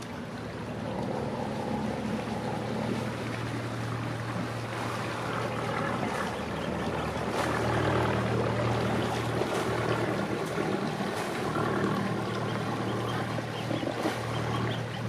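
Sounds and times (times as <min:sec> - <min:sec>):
motor boat engine humming: 0:00.0 - 0:15.0.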